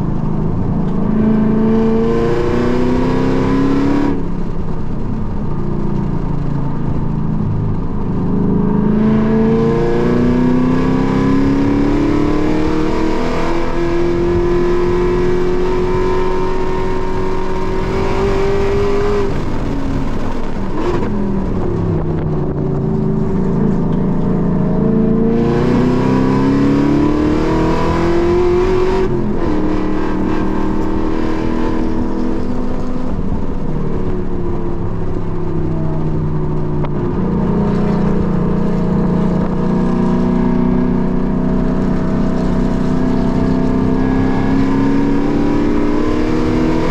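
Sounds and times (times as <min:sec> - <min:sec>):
racing car engine from inside cabin: 0:00.0 - 0:46.9.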